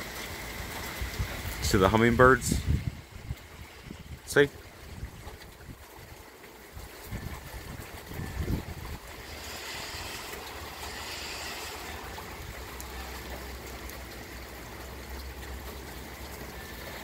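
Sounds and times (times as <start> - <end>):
steady rain falling: 0.0 - 17.0
low steady rumble: 0.5 - 17.0.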